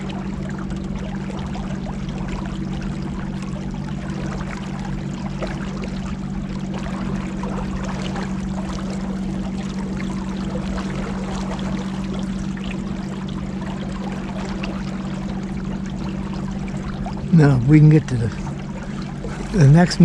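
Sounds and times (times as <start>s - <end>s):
motorboat engine droning: 0.0s - 20.0s
water splashing along hull: 0.0s - 20.0s.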